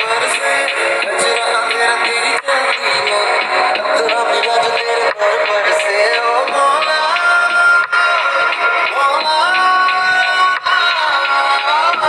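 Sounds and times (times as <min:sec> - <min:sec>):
song with singing and instruments: 0:00.0 - 0:12.0.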